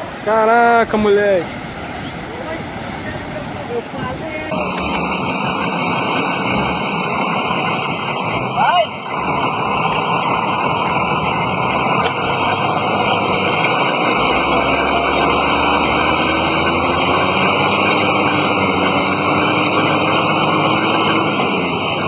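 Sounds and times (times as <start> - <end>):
engine running: 0.0 - 22.0
loud rushing noise: 0.0 - 22.0.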